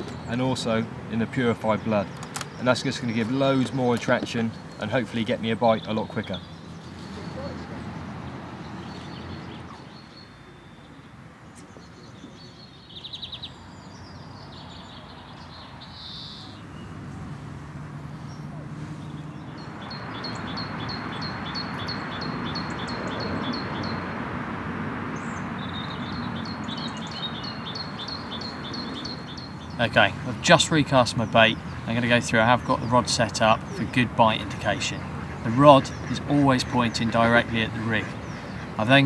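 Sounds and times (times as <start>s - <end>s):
small birds chirping: 0.0s - 17.1s, 17.9s - 24.4s, 25.0s - 39.0s.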